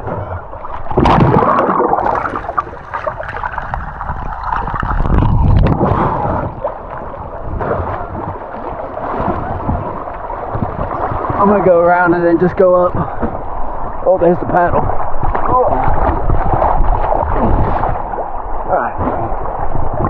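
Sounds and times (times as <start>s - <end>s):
water splashing: 0.0s - 20.0s
wind rumble on microphone: 0.0s - 20.0s.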